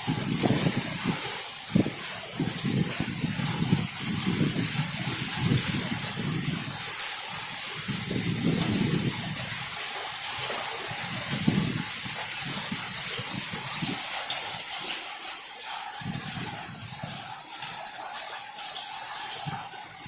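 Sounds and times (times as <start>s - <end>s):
wind buffeting microphone: 0.0s - 14.7s, 15.9s - 17.8s.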